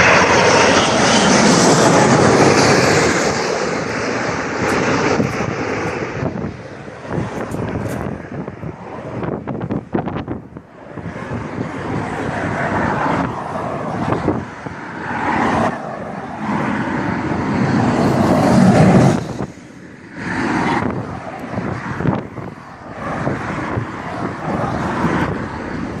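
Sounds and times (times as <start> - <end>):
jet engines rumbling in reverse thrust: 0.0 - 26.0.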